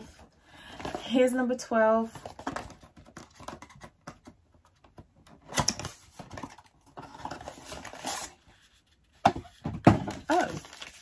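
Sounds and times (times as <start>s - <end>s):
cardboard rustling and scraping: 2.0s - 11.0s.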